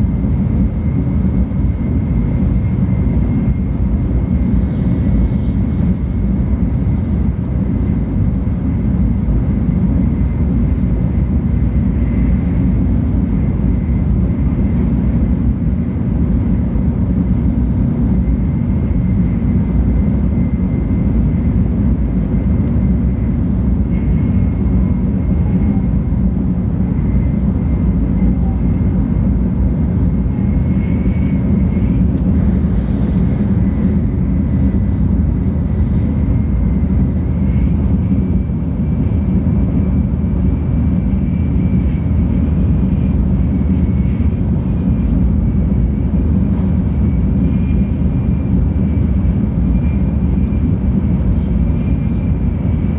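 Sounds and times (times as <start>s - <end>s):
faint high whine: 0.0s - 52.9s
train rumble inside cabin: 0.0s - 52.9s.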